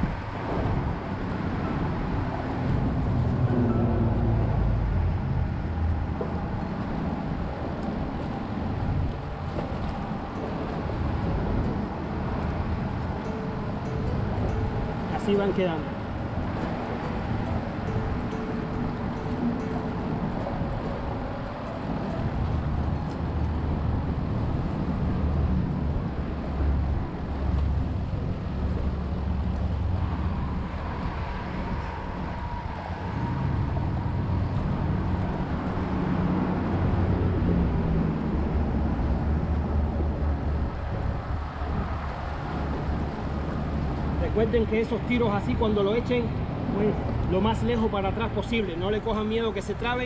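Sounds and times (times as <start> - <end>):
wind noise on microphone: 0.0 - 50.0.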